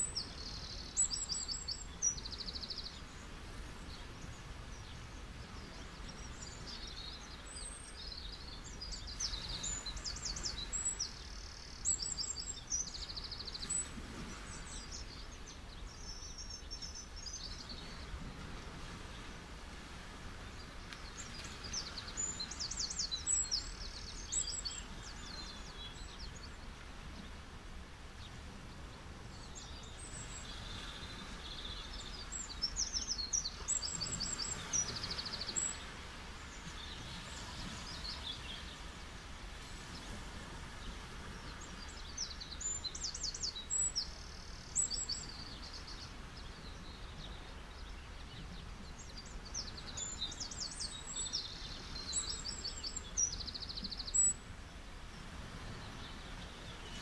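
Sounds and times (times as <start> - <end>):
songbird chirping: 0.0 - 19.5, 20.2 - 27.5, 28.2 - 54.6
ocean waves washing on beach: 0.0 - 57.0.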